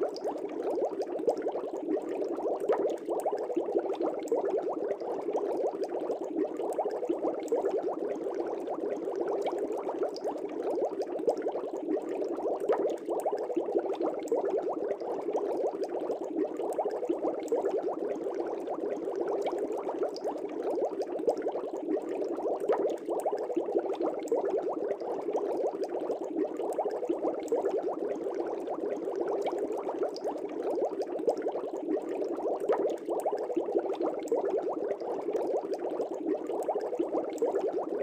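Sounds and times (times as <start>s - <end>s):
aquarium bubbles popping: 0.0s - 38.0s.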